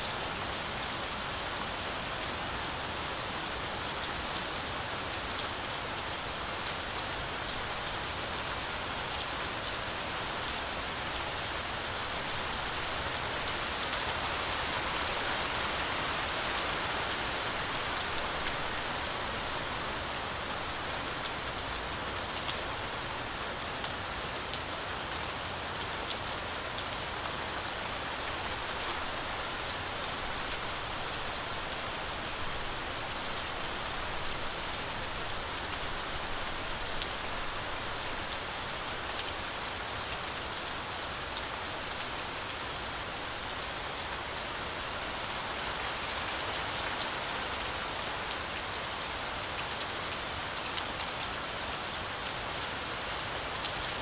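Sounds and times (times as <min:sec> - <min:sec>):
heavy rain on forest canopy: 0:00.0 - 0:54.0.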